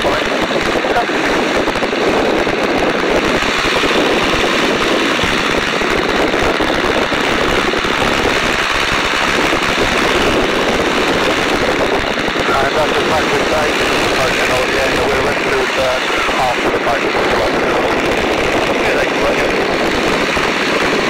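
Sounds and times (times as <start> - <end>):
biplane engine running: 0.0 - 21.0
slipstream rushing: 0.0 - 21.0.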